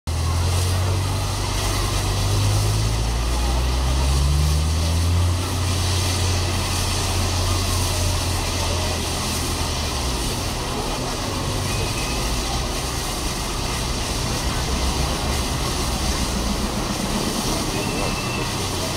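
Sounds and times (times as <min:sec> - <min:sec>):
crowd murmuring: 0:00.1 - 0:18.9
steam locomotive hum and hiss: 0:00.1 - 0:18.9.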